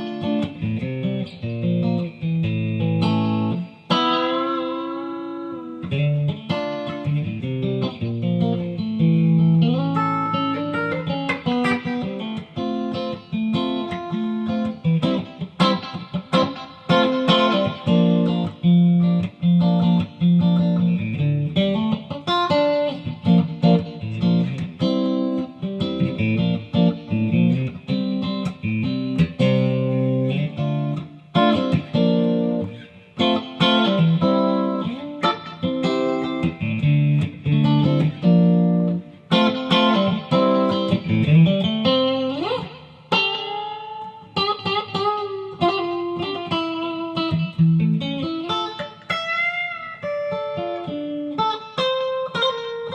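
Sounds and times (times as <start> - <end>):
electric guitar playing: 0.0 - 52.9.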